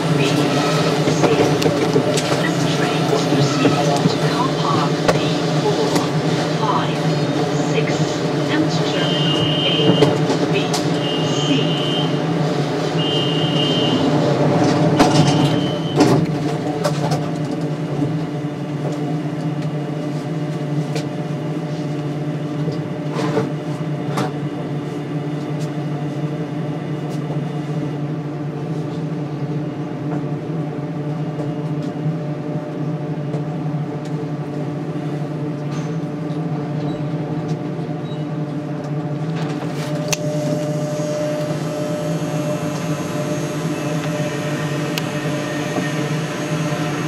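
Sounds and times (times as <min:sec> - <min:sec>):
electrical hum in train car: 0:00.0 - 0:47.0.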